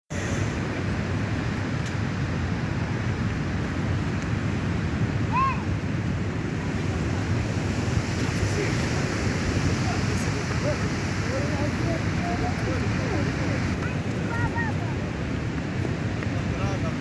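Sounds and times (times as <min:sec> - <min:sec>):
waves breaking: 0:00.1 - 0:17.0
wind buffeting microphone: 0:00.1 - 0:17.0.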